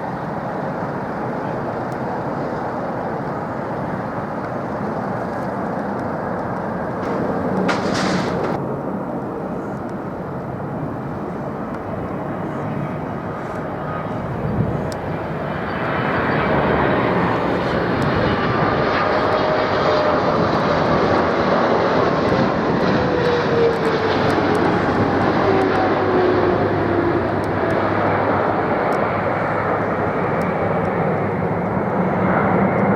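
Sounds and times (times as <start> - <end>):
jet airliner passing: 0.0 - 32.9.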